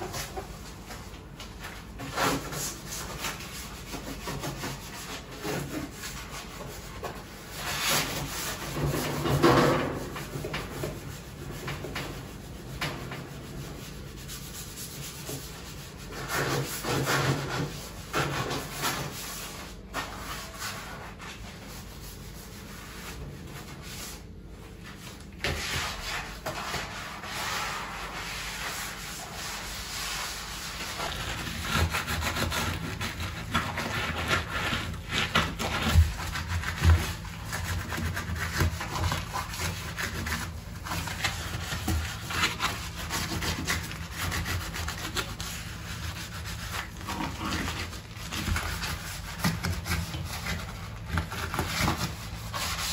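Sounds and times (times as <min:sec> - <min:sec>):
scrubbing on hard surface: 0:00.0 - 0:52.9.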